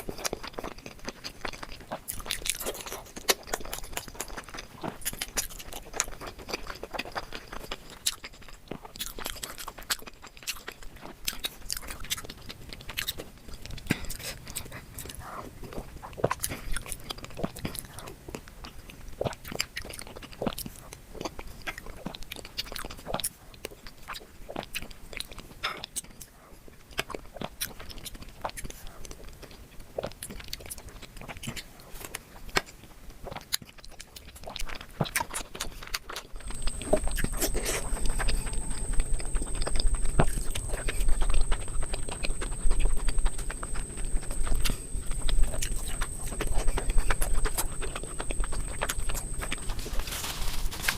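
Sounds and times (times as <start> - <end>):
chewing and wet mouth sounds: 0.0 - 50.9.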